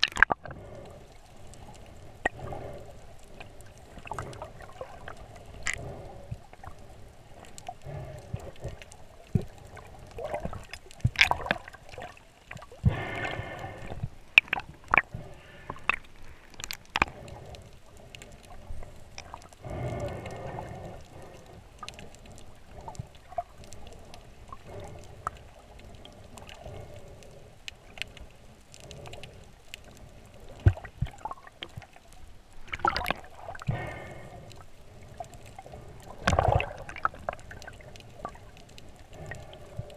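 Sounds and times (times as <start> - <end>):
muffled underwater water movement: 0.0 - 39.9
sharp underwater clicks and crackles: 0.0 - 39.9
underwater rushing sounds: 0.0 - 39.9.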